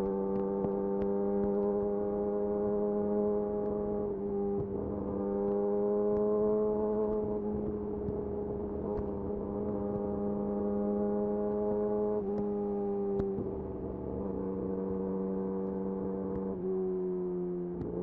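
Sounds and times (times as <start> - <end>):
motorcycle engine while riding: 0.0 - 18.0.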